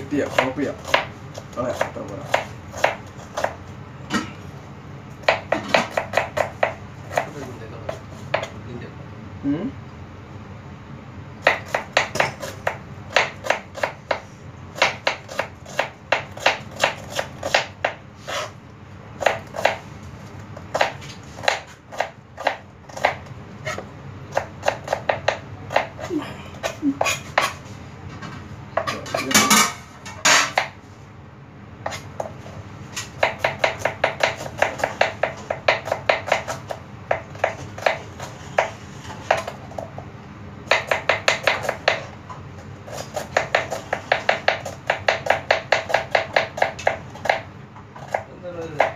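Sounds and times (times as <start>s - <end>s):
knife chopping on cutting board: 0.0s - 4.4s, 5.2s - 8.6s, 11.4s - 18.6s, 19.2s - 19.8s, 20.6s - 27.6s, 28.8s - 30.8s, 31.8s - 32.4s, 33.0s - 39.9s, 40.7s - 42.2s, 42.9s - 48.9s.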